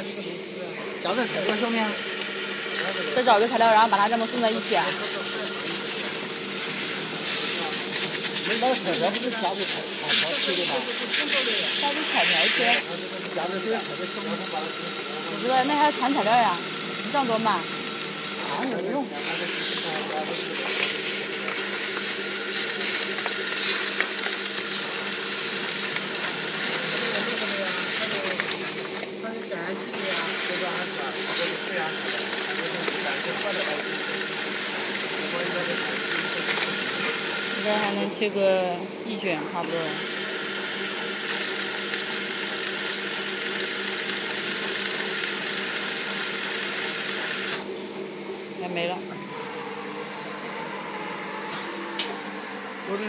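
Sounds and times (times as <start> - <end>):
machine hum with hiss: 0.0 - 53.0.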